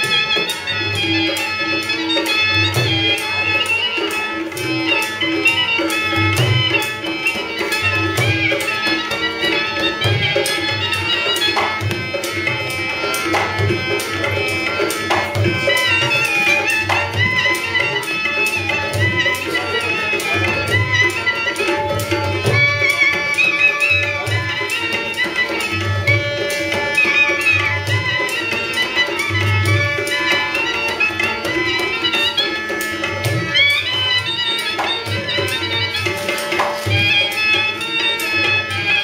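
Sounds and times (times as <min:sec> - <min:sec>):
hand drum beats: 0:00.0 - 0:39.0.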